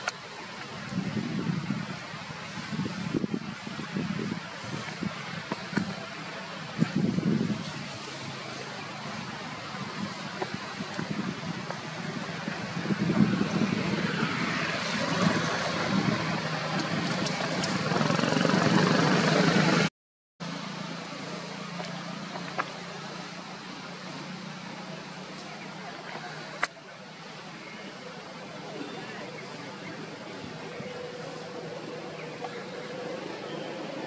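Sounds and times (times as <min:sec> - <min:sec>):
vehicle engine and tyre noise: 0:00.0 - 0:34.0.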